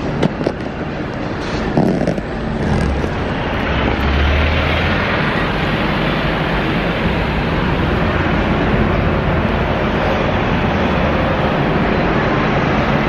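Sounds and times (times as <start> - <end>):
bus engine passing: 0.0 - 13.0
traffic rushing: 0.0 - 13.0.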